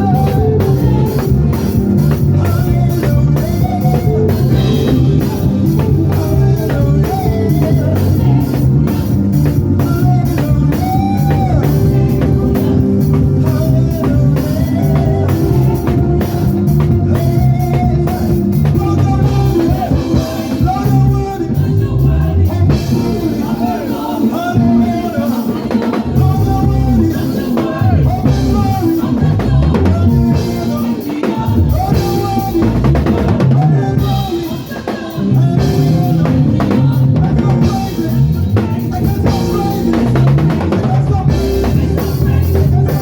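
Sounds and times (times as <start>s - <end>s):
gospel band music: 0.0s - 43.0s.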